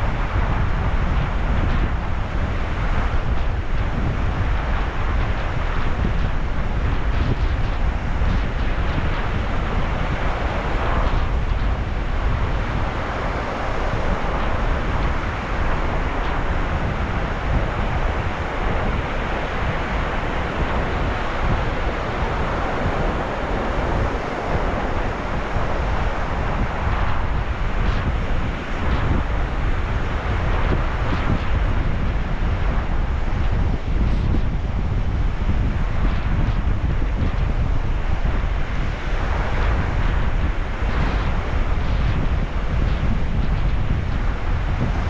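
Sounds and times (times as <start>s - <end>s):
sea waves washing on shore: 0.0s - 45.0s
wind rumbling on microphone: 0.0s - 45.0s.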